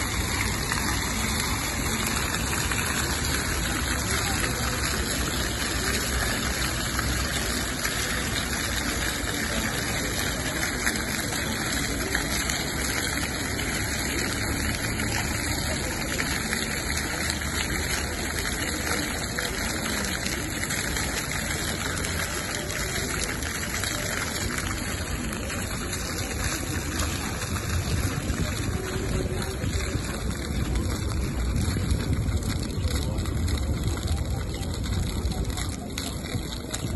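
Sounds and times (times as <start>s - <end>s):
fountain jets splashing on stone: 0.0s - 36.9s.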